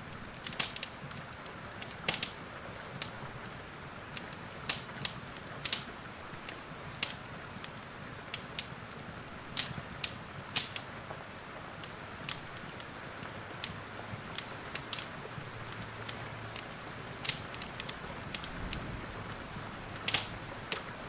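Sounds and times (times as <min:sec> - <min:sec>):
rain hissing: 0:00.0 - 0:21.0
wood fire crackling and popping: 0:00.0 - 0:21.0.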